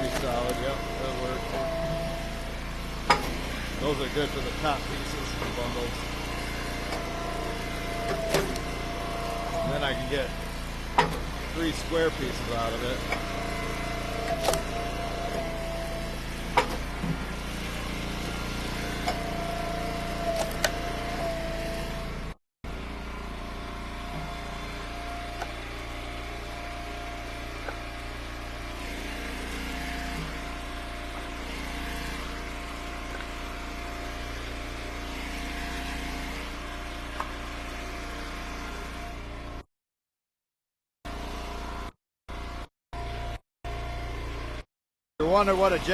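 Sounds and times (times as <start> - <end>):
wood splitter engine running: 0.0 - 39.7, 41.1 - 44.6, 45.2 - 45.9.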